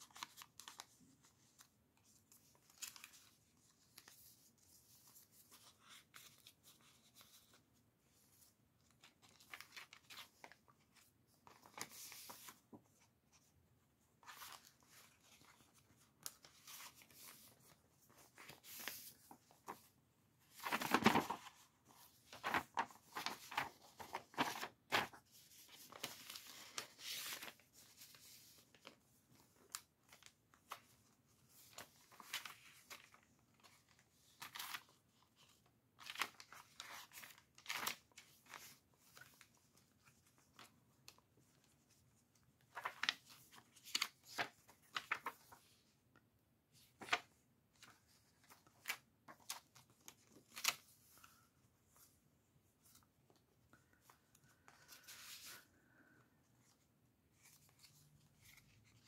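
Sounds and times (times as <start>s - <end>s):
paper rustling and crinkling: 0.0s - 46.0s, 46.8s - 59.0s.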